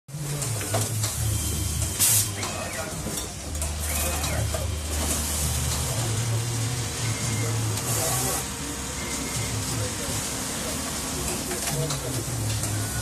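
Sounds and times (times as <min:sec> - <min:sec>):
machine humming: 0:00.2 - 0:13.0.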